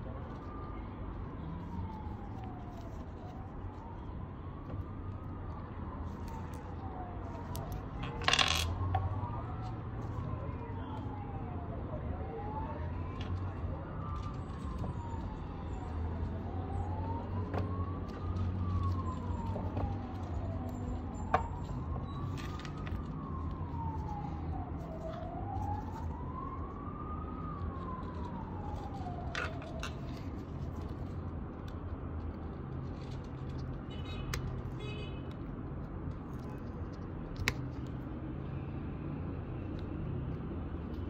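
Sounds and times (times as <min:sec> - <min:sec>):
emergency siren wailing: 0:00.0 - 0:41.0.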